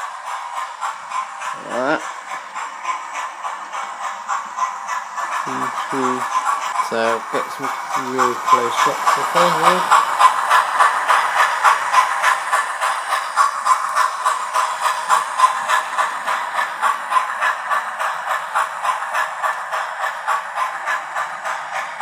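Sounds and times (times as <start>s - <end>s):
steam locomotive chuffing through small speaker: 0.0s - 22.0s.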